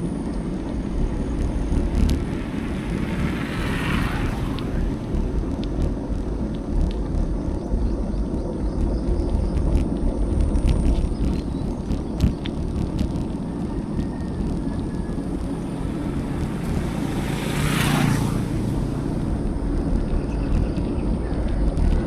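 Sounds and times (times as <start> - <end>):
vehicle passing: 0.0 - 22.0
wind rumble: 0.0 - 22.0.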